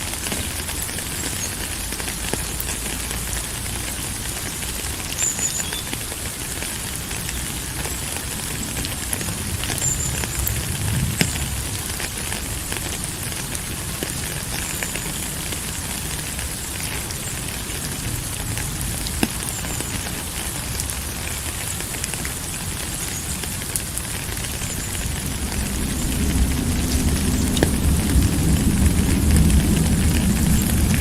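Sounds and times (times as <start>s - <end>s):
raindrops ticking: 0.0s - 31.0s
steady rain falling: 0.0s - 31.0s.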